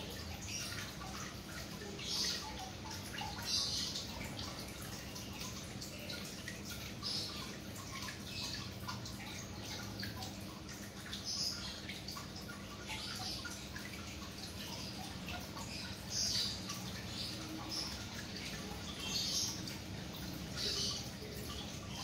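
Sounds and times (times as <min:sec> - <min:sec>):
water dripping and trickling: 0:00.0 - 0:22.0.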